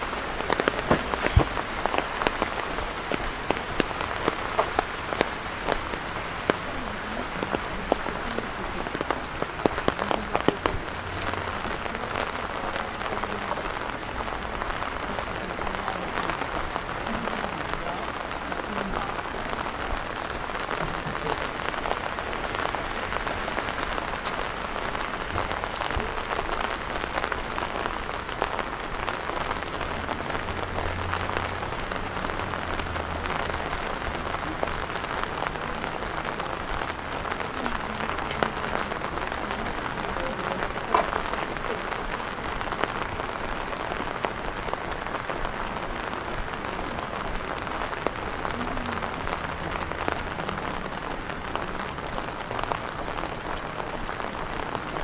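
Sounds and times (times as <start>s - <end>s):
rain falling: 0.0s - 55.0s
sharp raindrop impacts: 0.0s - 55.0s.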